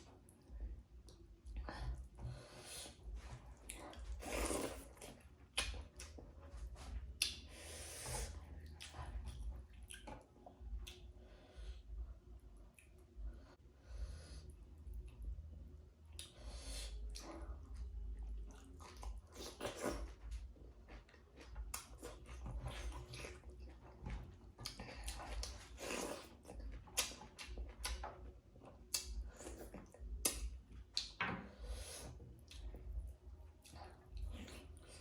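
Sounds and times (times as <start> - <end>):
steady low hum: 0.0 - 35.0
chewing with wet smacks: 2.8 - 11.8, 12.6 - 13.2, 16.0 - 35.0.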